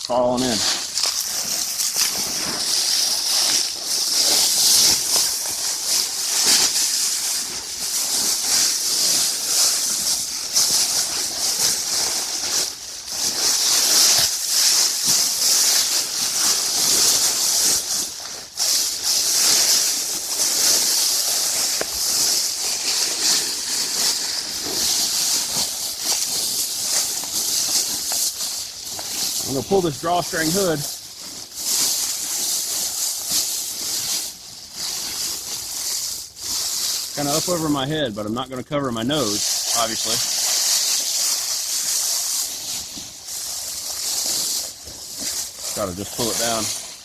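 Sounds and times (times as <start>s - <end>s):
foil material crinkling: 0.0s - 47.0s.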